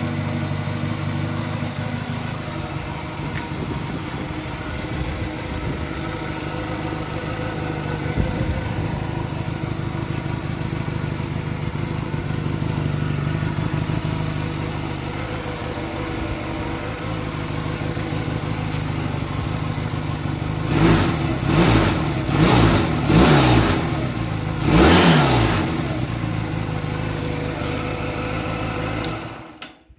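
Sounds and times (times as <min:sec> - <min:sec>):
engine idling and revving: 0:00.0 - 0:29.7.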